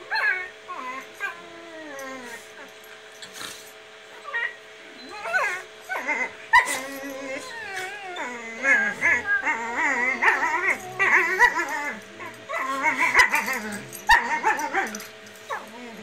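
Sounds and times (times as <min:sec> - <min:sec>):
puppies whining and yipping: 0:00.1 - 0:02.8, 0:04.1 - 0:16.0.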